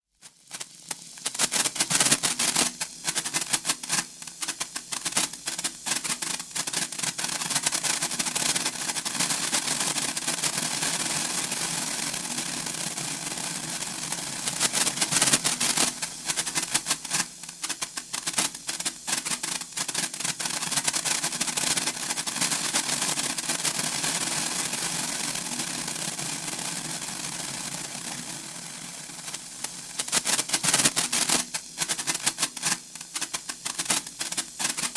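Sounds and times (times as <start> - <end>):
sparkler crackling and fizzing: 0.0 - 34.9.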